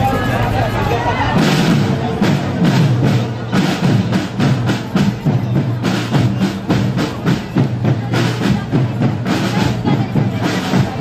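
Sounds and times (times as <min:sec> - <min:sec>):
bass drums: 0:00.0 - 0:11.0
snare drums: 0:00.0 - 0:11.0.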